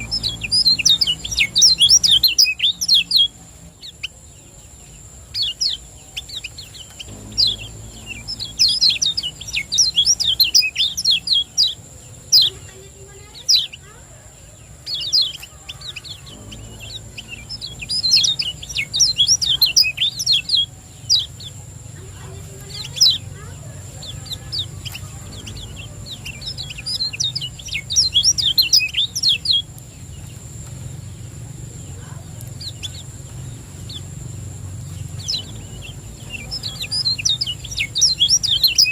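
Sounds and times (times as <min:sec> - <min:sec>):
bird chirping: 0:00.0 - 0:38.9
low background hum: 0:00.0 - 0:38.9.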